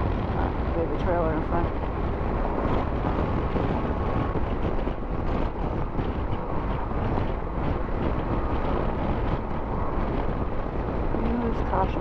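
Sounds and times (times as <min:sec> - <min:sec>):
road noise: 0:00.0 - 0:12.0
wind rush on microphone: 0:00.0 - 0:12.0.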